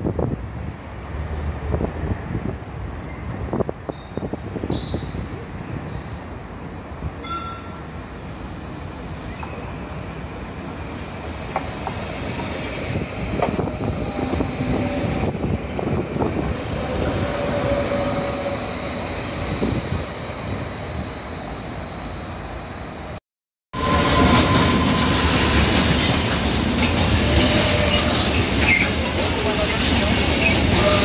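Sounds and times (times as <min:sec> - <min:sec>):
train wheels rumbling on rails: 0:00.0 - 0:22.4, 0:23.8 - 0:31.0.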